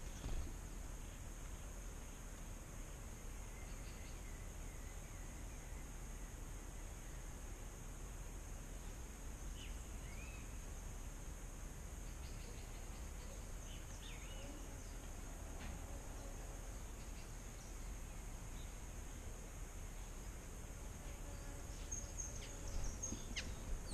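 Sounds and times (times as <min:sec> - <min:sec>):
low background noise: 0:00.0 - 0:23.9.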